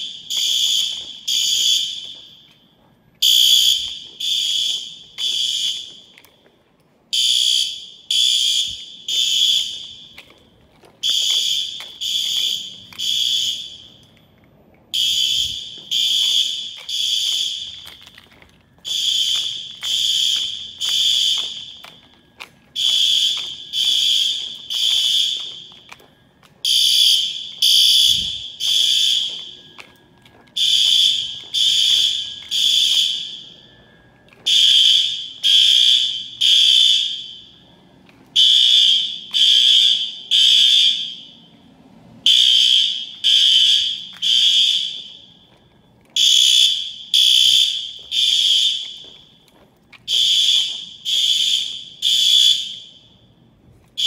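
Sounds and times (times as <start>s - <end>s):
fire alarm horn blasts: 0.0s - 6.5s, 7.1s - 14.2s, 14.9s - 54.0s.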